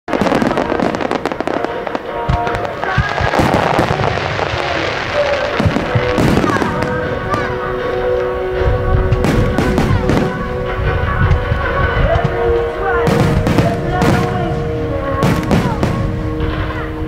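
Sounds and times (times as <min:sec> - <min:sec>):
fireworks bangs: 0:00.1 - 0:17.0
fireworks crackling and popping: 0:00.1 - 0:17.0
music with held tones: 0:00.1 - 0:17.0.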